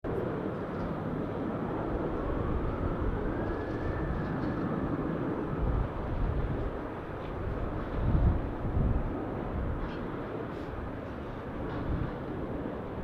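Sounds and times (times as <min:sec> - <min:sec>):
faint jet whine: 0:00.1 - 0:13.0
jet engines rumbling: 0:00.1 - 0:13.0.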